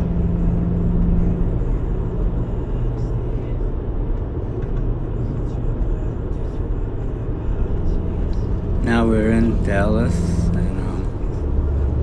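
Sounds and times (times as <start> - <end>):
low hum: 0.0 - 12.0
road and engine rumble in car: 0.0 - 12.0.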